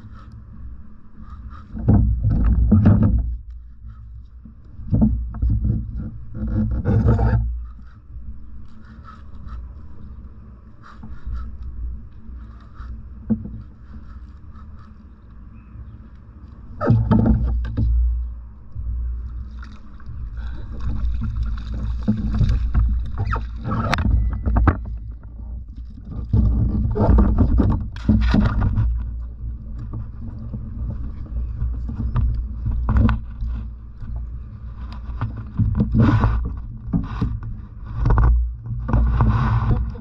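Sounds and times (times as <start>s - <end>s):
knocks and scrapes against hull: 0.0s - 40.0s
steady low rumble: 0.0s - 40.0s.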